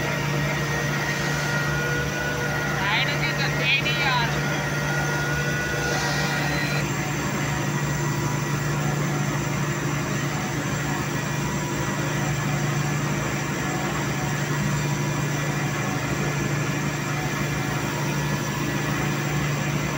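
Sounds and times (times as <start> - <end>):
machine tools humming: 0.0 - 19.9.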